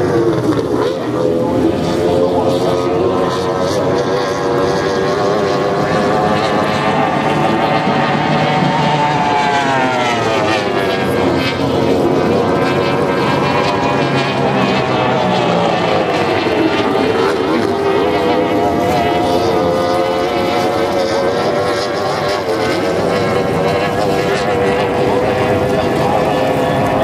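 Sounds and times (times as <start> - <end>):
race boat engines passing: 0.0 - 27.0.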